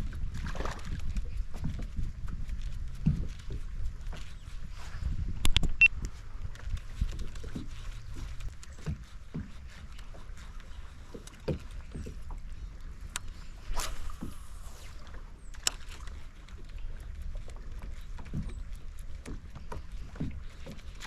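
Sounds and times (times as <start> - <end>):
paddle splashing in water: 0.0 - 4.9, 6.1 - 21.0.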